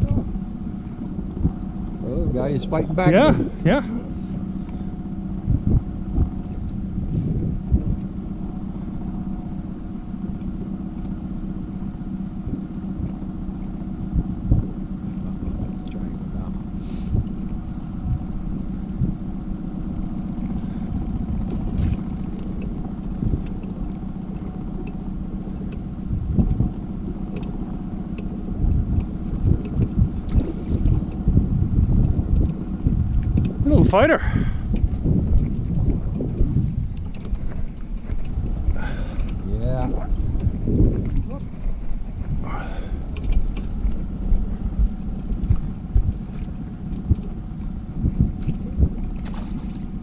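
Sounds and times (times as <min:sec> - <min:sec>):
boat motor droning: 0:00.0 - 0:50.0
wind buffeting microphone: 0:00.0 - 0:50.0.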